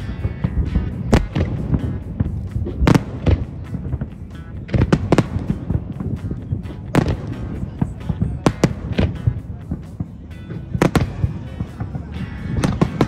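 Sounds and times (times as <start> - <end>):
fireworks bangs: 0.0 - 13.0
fireworks crackles: 0.0 - 13.0.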